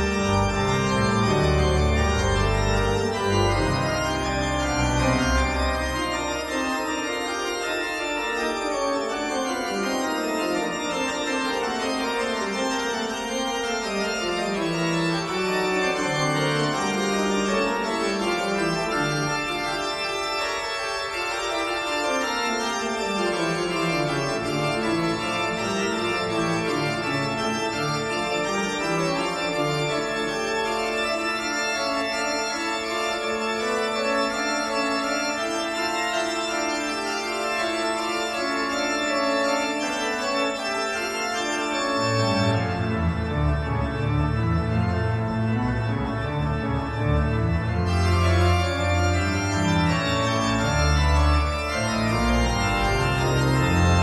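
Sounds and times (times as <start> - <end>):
organ music: 0.0 - 54.0.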